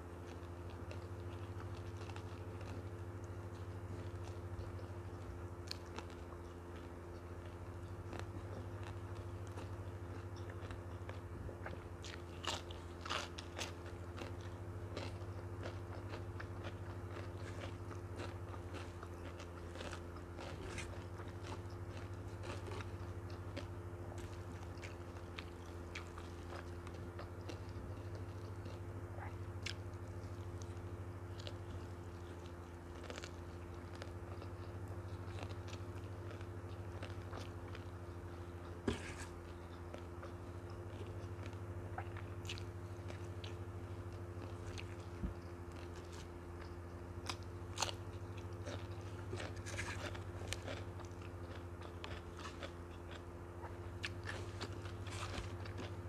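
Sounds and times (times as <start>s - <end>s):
steady low hum: 0.0s - 56.0s
chewing with moist mouth clicks: 0.2s - 56.0s
crisp crunches of biting: 0.3s - 56.0s.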